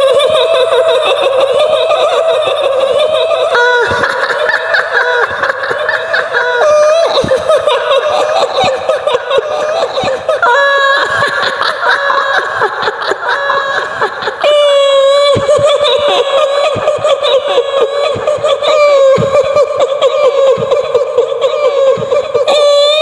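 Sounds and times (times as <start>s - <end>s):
woman laughing shrilly: 0.0s - 23.0s.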